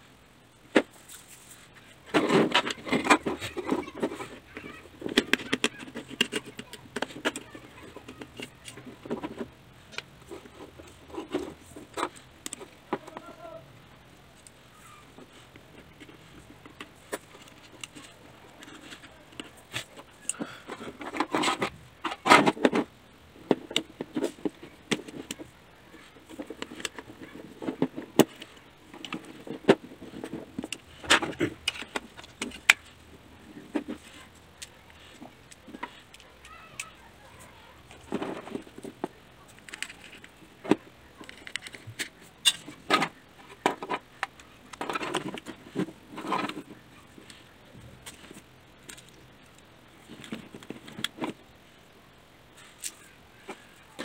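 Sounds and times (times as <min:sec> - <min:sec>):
plastic toy parts clicking and rattling: 0:00.7 - 0:13.6, 0:14.2 - 0:51.8, 0:52.6 - 0:54.0.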